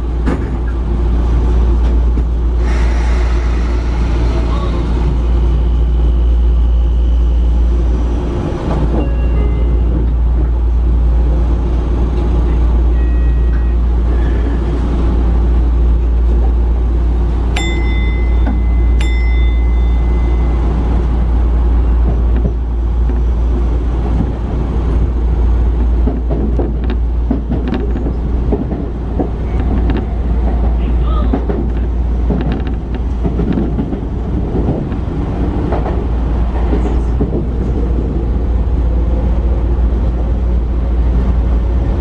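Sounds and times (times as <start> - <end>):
train rumbling from inside: 0.0 - 42.0.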